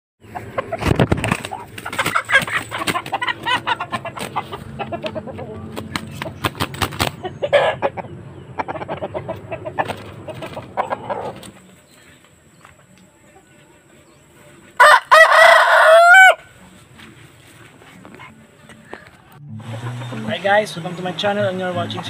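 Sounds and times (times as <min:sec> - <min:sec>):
chickens clucking: 0:00.2 - 0:22.0.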